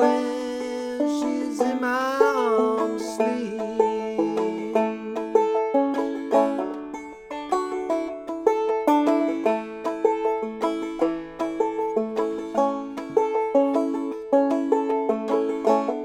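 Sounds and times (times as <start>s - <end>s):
banjo plucked notes: 0.0s - 16.0s.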